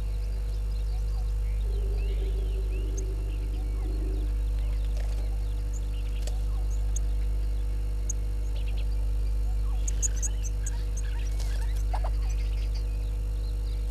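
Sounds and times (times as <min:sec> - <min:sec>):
birds chirping: 0:00.0 - 0:13.9
low electrical hum: 0:00.0 - 0:13.9.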